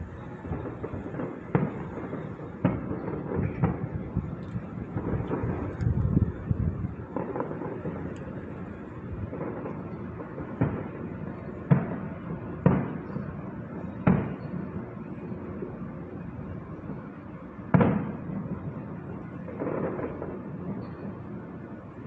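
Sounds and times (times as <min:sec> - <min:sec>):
distant fireworks booming: 0:00.0 - 0:21.7.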